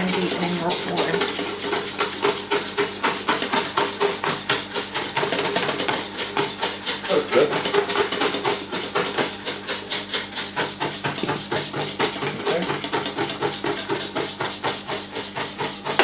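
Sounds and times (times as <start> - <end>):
whisk clicking against bowl: 0.0 - 16.0.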